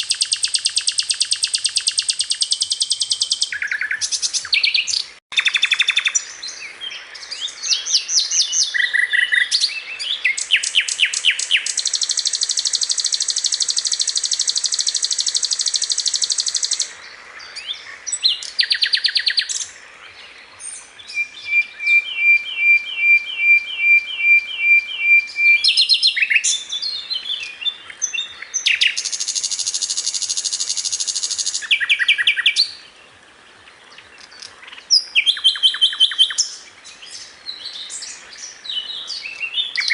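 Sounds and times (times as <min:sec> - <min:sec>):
bird singing trills and chirps: 0:00.0 - 0:39.9.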